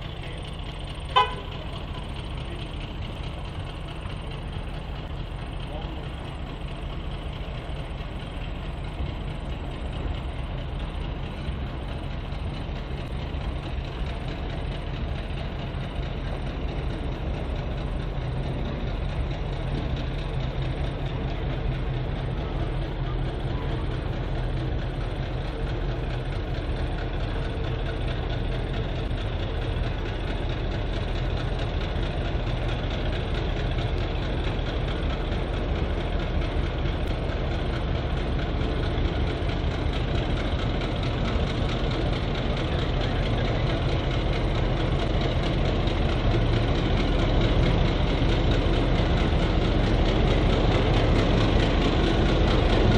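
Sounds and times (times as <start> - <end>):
diesel locomotive engine rumbling: 0.0 - 52.9.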